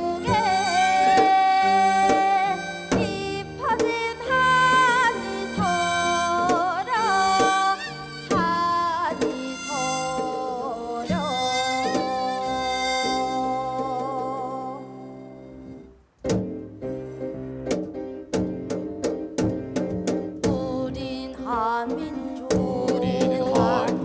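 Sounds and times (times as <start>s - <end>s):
traditional ensemble melody: 0.0s - 24.0s.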